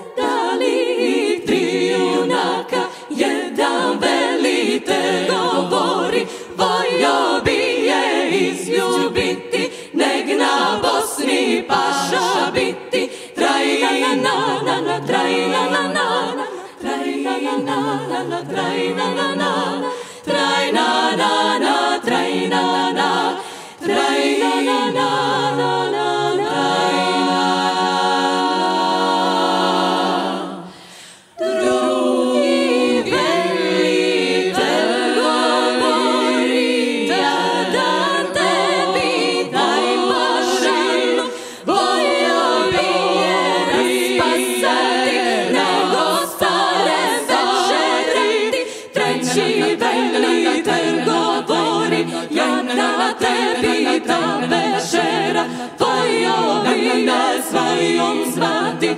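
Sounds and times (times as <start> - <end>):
women singing a cappella harmony: 0.0 - 58.9.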